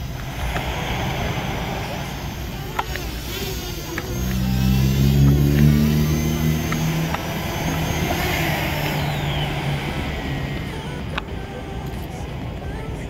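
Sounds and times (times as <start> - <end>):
high whine: 0.0 - 13.0
motor humming: 0.0 - 13.0.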